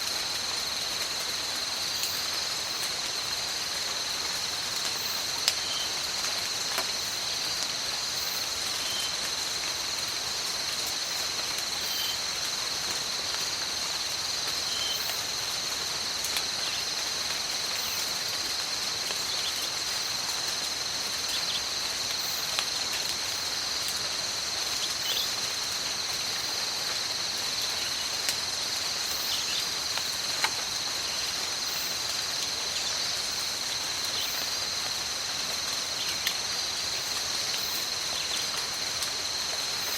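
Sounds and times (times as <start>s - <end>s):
high-pitched insect chorus: 0.0s - 39.9s
steady rainfall: 0.0s - 39.9s.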